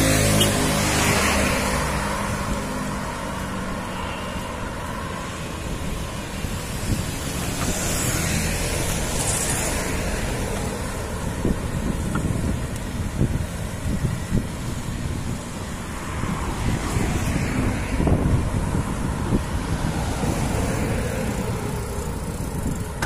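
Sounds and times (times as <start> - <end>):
road traffic noise: 0.0 - 23.0
wind buffeting microphone: 0.2 - 23.0.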